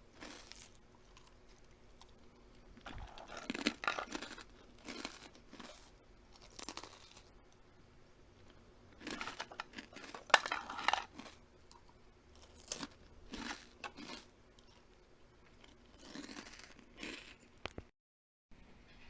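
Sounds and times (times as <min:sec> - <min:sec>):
person chewing crunchy food: 0:00.0 - 0:07.4, 0:08.4 - 0:17.9.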